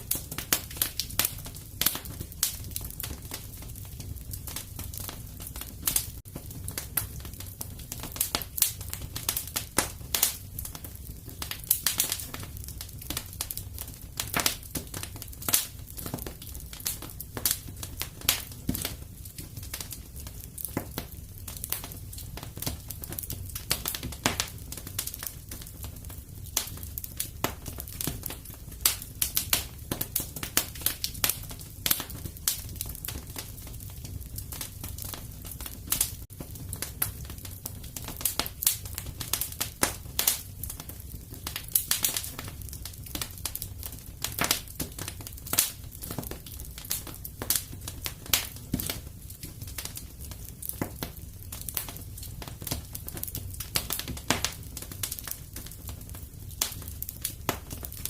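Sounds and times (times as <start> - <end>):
fire crackling with pops: 0.0 - 58.0.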